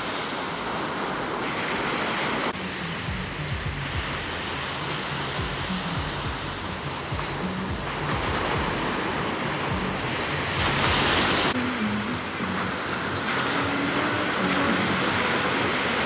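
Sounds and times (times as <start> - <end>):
faint music: 0.0 - 16.0
sea waves washing onto beach: 0.0 - 16.0.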